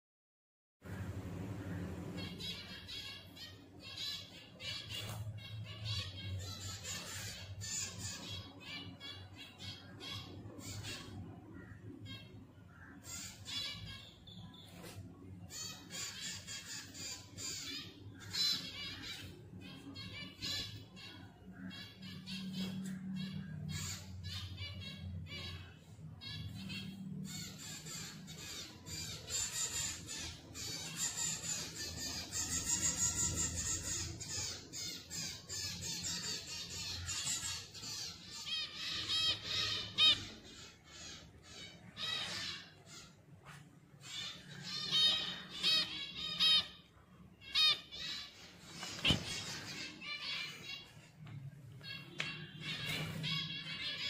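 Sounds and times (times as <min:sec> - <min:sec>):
finch calls harsh squawks: 0:00.9 - 0:43.3, 0:44.0 - 0:51.1.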